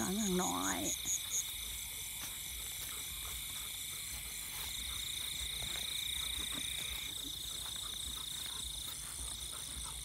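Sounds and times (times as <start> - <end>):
frogs calling: 0.0 - 10.0
insects trilling: 0.0 - 10.0.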